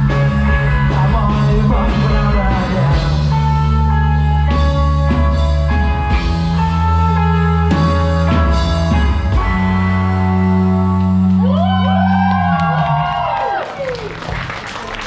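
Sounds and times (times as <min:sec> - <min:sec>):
sliding guitar pitches: 0:00.0 - 0:13.0
rock band sustained chords: 0:00.0 - 0:13.4.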